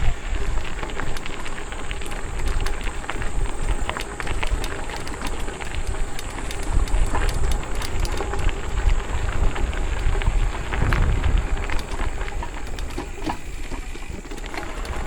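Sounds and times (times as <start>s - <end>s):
bike tyres rattling on dirt: 0.0s - 15.0s
wind rumbling on microphone: 0.0s - 15.0s.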